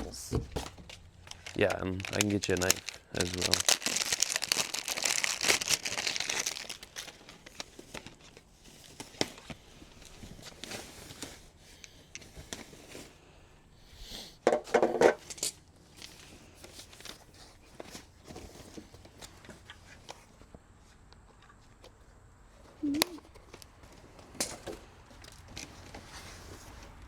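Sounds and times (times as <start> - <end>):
plastic and cardboard rustling: 0.0 - 13.4, 14.6 - 22.0, 22.6 - 27.0.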